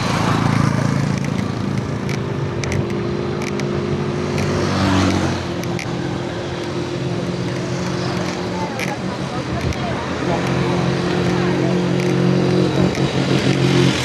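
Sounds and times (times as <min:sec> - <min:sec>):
vehicle engines running: 0:00.0 - 0:14.0
vehicle passing: 0:00.0 - 0:14.0.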